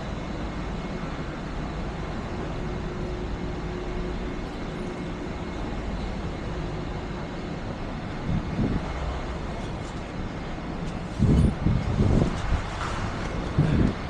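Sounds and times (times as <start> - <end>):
traffic rumble and hiss: 0.0 - 14.0.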